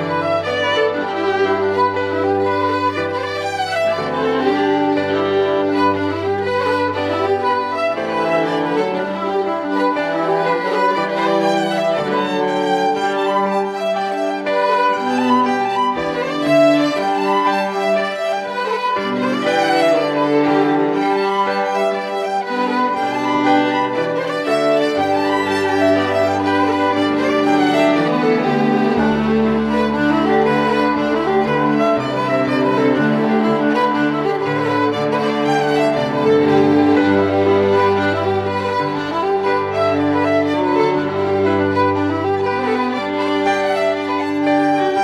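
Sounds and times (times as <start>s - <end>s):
bowed strings with violin: 0.0s - 45.0s.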